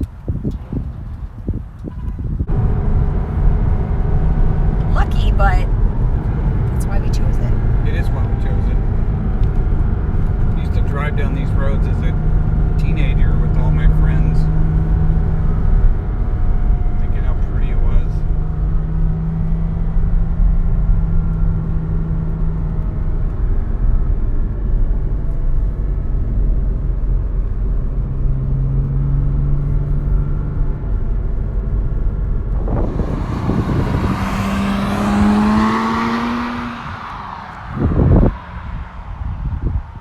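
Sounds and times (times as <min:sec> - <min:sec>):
car engine accelerating: 0:02.4 - 0:40.0.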